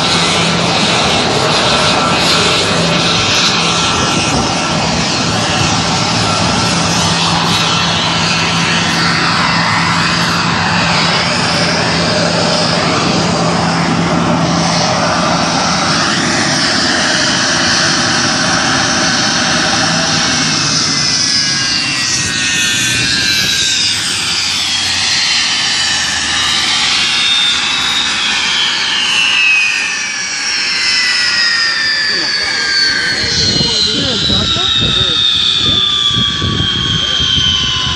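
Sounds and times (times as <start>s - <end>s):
jet fighter engine whine: 0.0s - 37.9s.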